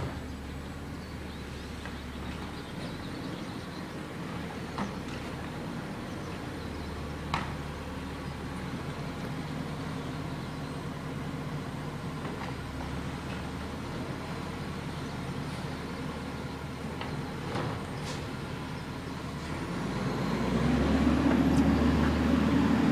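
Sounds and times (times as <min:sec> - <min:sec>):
vehicle engine humming: 0:00.0 - 0:22.9.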